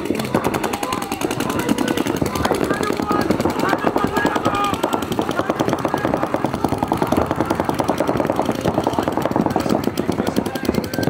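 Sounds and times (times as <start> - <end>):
paintball guns firing rapidly: 0.0 - 11.0.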